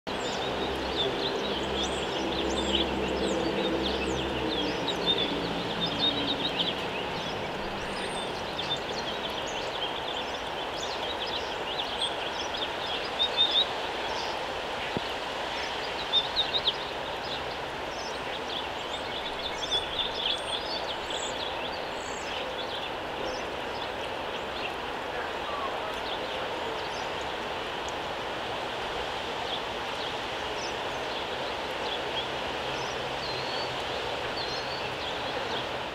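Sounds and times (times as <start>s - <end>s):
birds chirping: 0.1s - 15.0s, 15.6s - 27.4s, 29.4s - 35.9s.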